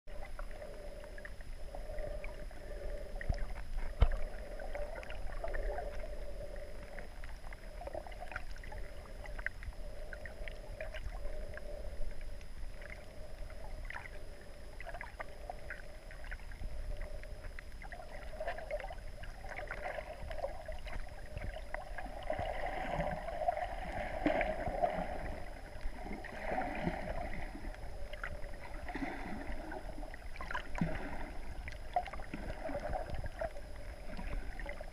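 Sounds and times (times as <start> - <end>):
faint underwater clicks and crackles: 0.1 - 34.9
muffled underwater rumble and hiss: 0.1 - 34.9.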